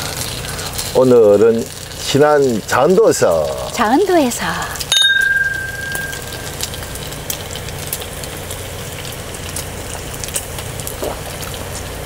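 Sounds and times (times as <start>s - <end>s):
gas burner hum: 0.0s - 12.0s
meat sizzling in a pan: 0.0s - 12.0s.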